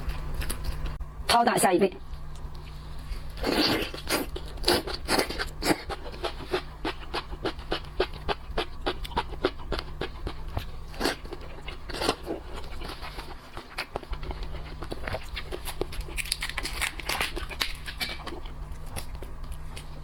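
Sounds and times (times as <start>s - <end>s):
crunchy chewing: 0.0s - 1.0s, 2.2s - 20.0s
steady low hum: 0.0s - 20.0s.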